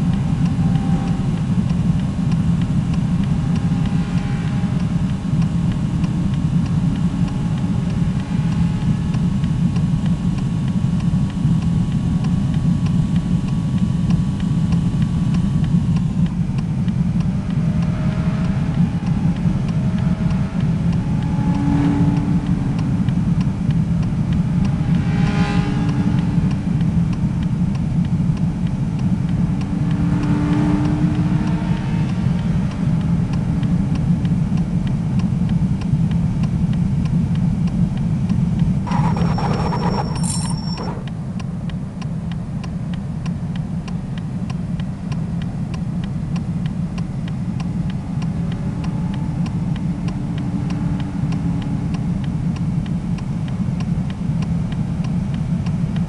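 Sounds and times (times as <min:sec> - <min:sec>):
road vehicle driving drone: 0:00.0 - 0:56.0.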